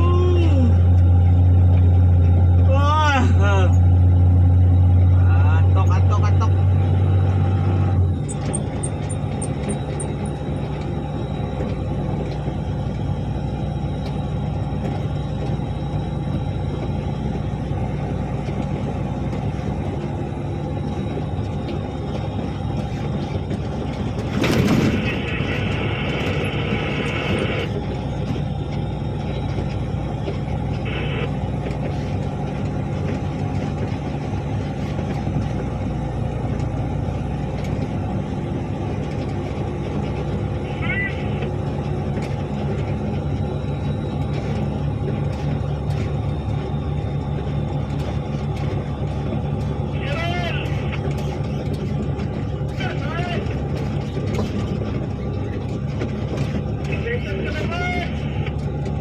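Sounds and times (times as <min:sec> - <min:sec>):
diesel truck engine droning: 0:00.0 - 0:59.0.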